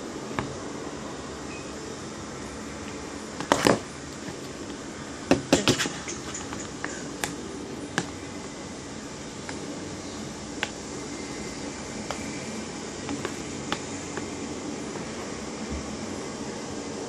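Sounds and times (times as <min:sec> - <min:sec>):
steady room hum: 0:00.0 - 0:17.0.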